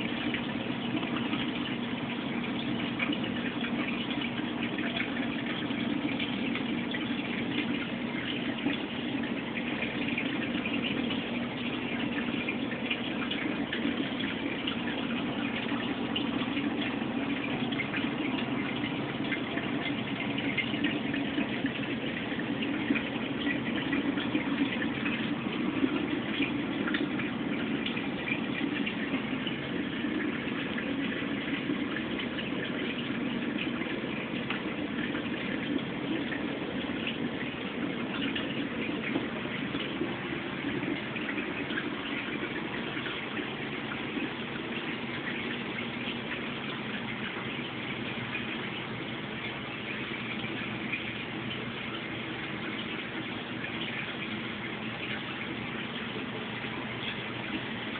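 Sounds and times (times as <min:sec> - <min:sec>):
water rushing and trickling: 0:00.0 - 0:57.9.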